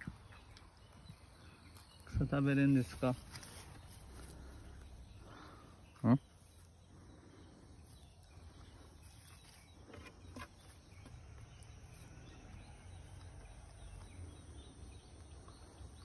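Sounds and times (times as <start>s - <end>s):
faint rustling of grass: 0.0s - 16.0s.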